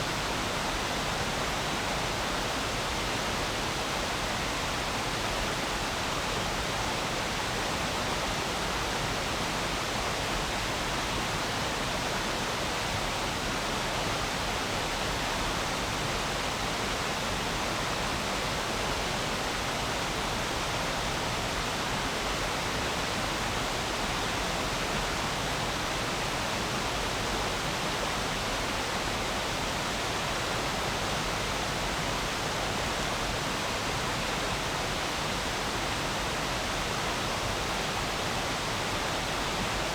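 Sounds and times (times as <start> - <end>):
stream flowing: 0.1 - 39.9.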